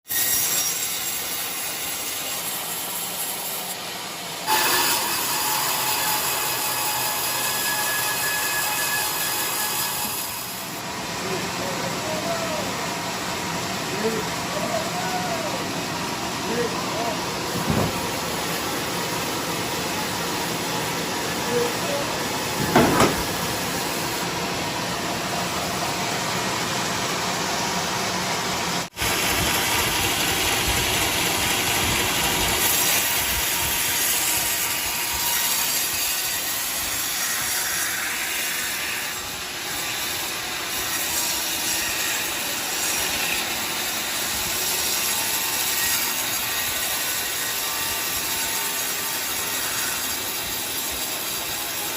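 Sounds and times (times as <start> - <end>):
sawmill saw cutting lumber: 0.1 - 51.9.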